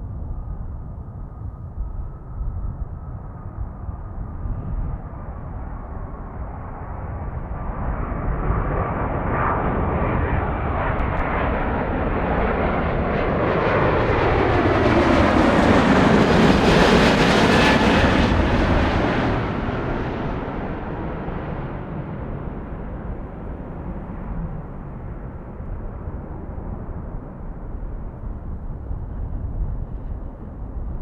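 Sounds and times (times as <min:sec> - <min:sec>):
jet engine whine falling in pitch: 0:00.2 - 0:29.5
jet airliner passing: 0:00.3 - 0:31.0.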